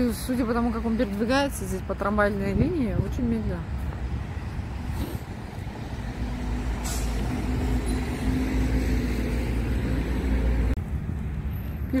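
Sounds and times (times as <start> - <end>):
heavy road vehicle passing: 0.0 - 12.0.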